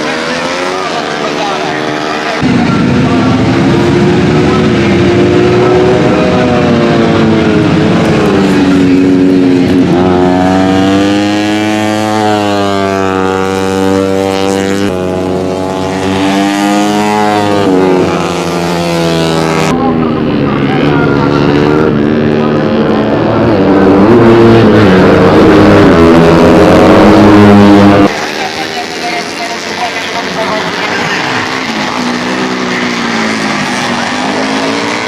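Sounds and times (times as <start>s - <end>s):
racing motorcycles revving: 0.0s - 35.0s.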